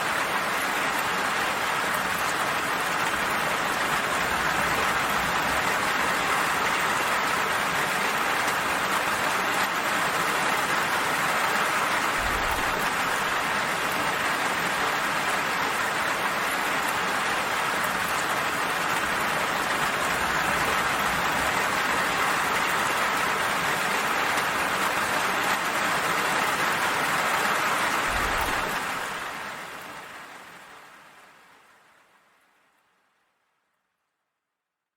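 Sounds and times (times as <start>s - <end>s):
steady rainfall: 0.0s - 33.6s.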